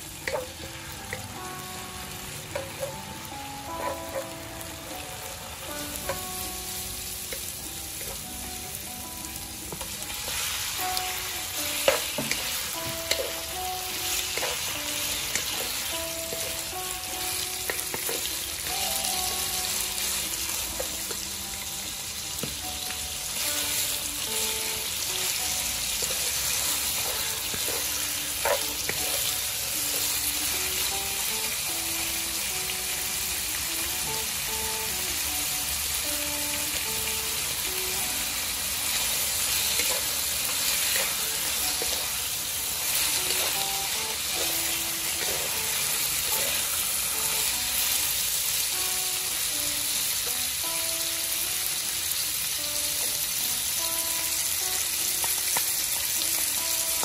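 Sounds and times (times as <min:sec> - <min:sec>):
food sizzling in wok: 0:00.0 - 0:57.0.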